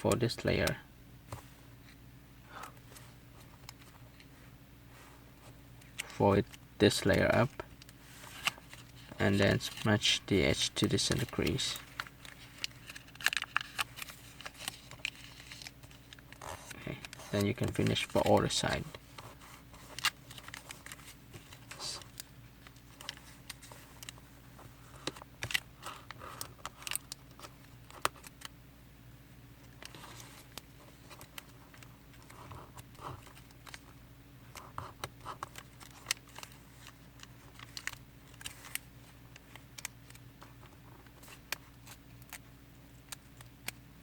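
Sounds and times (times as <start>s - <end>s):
faint steady hum: 0.0s - 44.0s
paper folding clicks and rustles: 2.8s - 4.3s, 5.4s - 28.5s, 29.6s - 43.8s.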